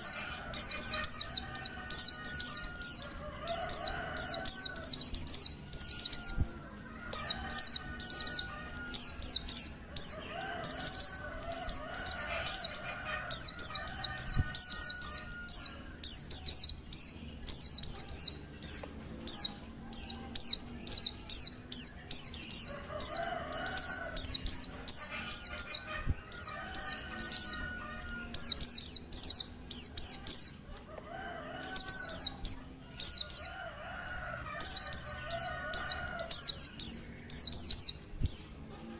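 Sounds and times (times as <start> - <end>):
fainter lower bird calls: 0.0 - 38.9.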